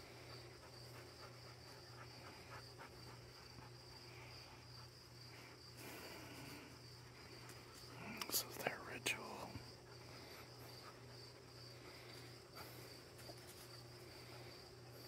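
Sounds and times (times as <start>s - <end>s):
crickets trilling: 0.0s - 15.0s
low steady hum: 0.0s - 15.0s.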